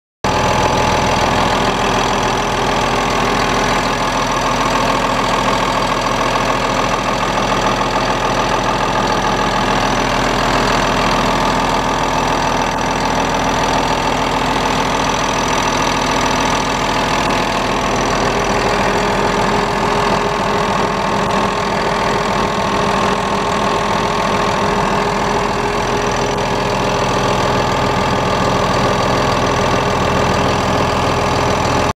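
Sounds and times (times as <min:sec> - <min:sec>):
diesel engine running: 0:00.2 - 0:31.9.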